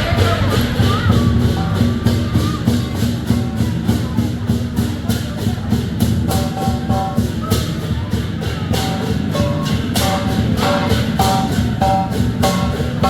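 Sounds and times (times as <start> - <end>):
cymbals clashing: 0.0 - 13.0
large drum beating: 0.0 - 13.0.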